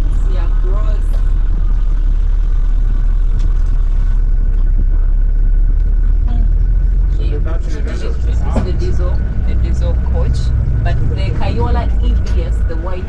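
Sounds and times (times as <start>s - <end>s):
bus road rumble: 0.0s - 13.0s
faint steady whine: 0.0s - 13.0s.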